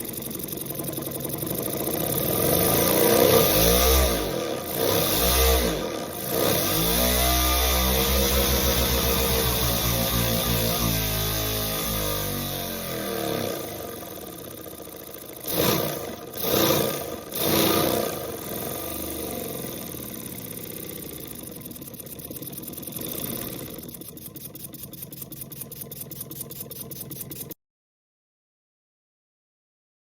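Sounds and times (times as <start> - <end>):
pneumatic engine running: 0.0 - 27.6.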